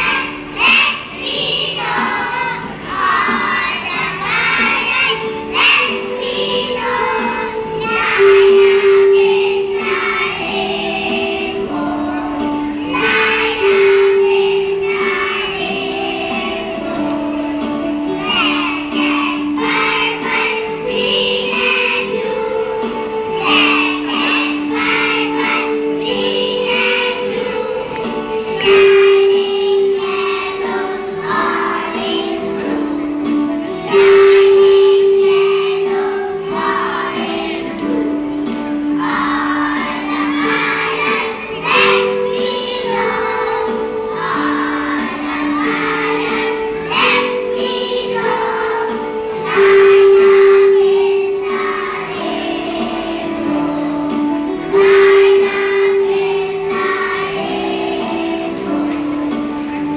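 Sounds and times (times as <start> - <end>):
voices singing long notes: 0.0 - 59.9.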